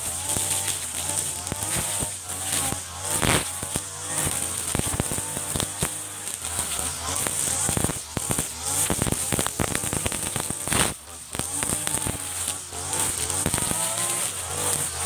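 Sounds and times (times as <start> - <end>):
brush cutter running: 0.0 - 15.0
cutting head cracking grass stems: 0.0 - 15.0.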